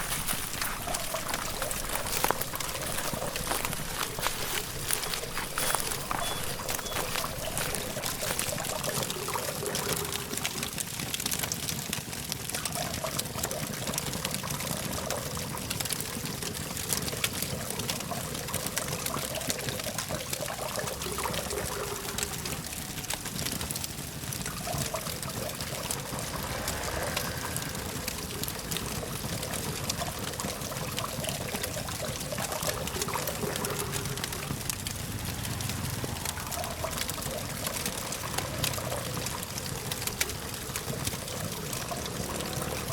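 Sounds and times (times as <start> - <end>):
distant road traffic hum: 0.0 - 10.6, 19.0 - 42.9
campfire crackling and popping: 0.0 - 42.9.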